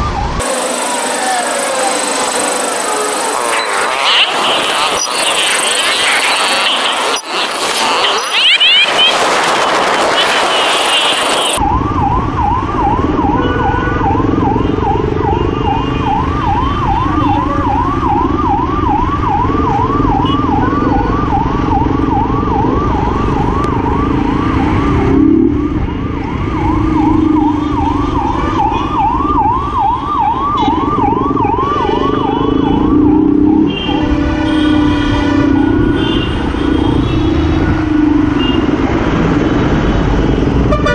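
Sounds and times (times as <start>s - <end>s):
ambulance siren yelping: 0.0s - 25.2s, 26.1s - 34.4s
engine and traffic rumble: 0.0s - 40.9s.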